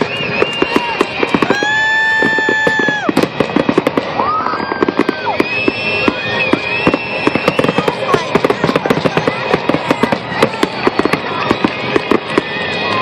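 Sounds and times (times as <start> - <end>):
fireworks shells bursting: 0.0 - 13.0
fireworks whistling: 0.0 - 13.0.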